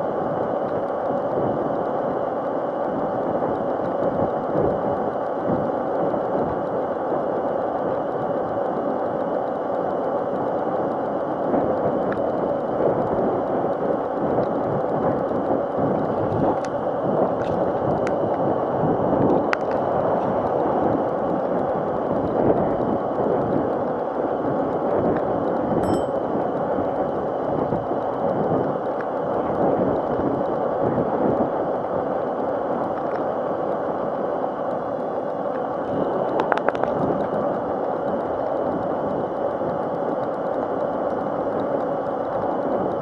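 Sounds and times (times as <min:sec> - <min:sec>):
faint electric whine: 0:00.0 - 0:43.0.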